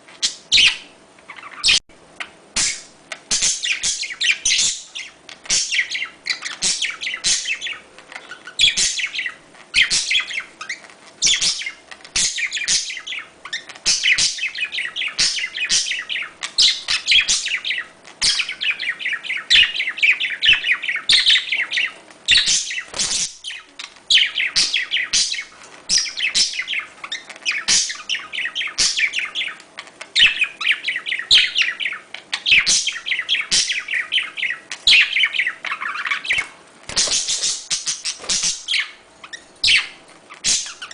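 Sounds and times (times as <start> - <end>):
budgerigars chirping and warbling: 0.1 - 40.9.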